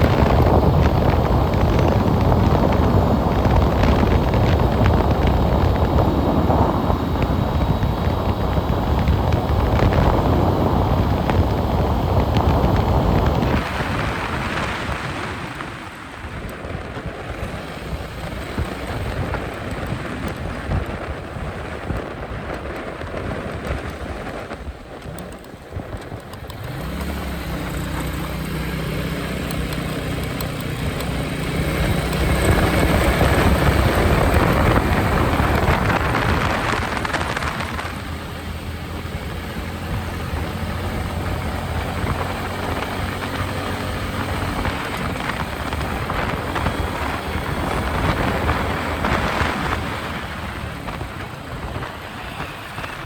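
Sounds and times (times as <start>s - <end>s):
motorcycle engine at speed: 0.0s - 53.0s
wind rushing over microphone: 0.0s - 53.0s.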